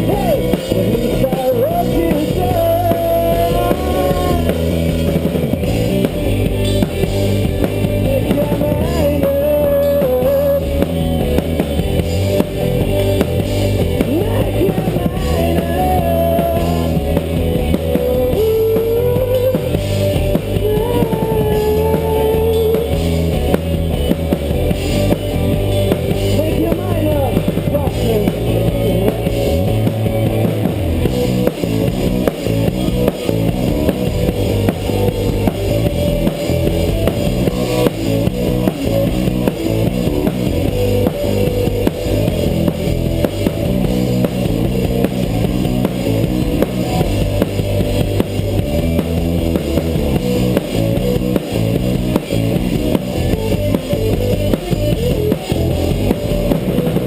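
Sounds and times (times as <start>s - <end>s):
live rock band playing: 0.0s - 57.0s
steady drum beat: 0.0s - 57.0s.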